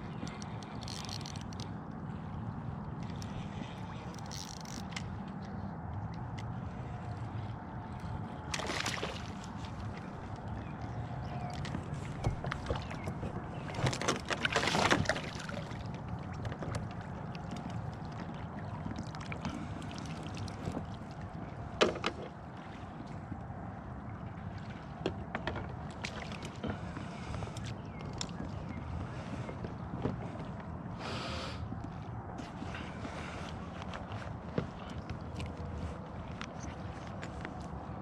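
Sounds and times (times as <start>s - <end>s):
boat low rumble: 0.0s - 38.0s.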